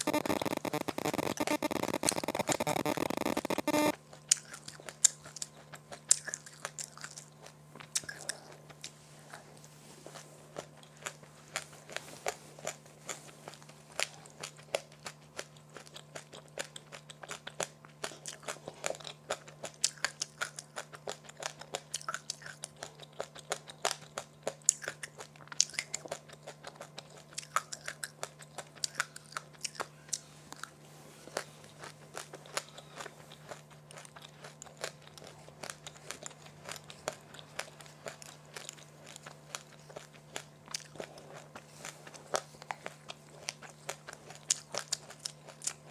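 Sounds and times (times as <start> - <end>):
crunchy food chewing: 0.0 - 45.9
steady low hum: 0.0 - 45.9.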